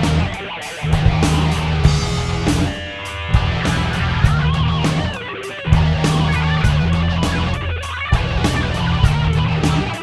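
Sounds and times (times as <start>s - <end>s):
rock song with electric guitar: 0.0s - 10.0s.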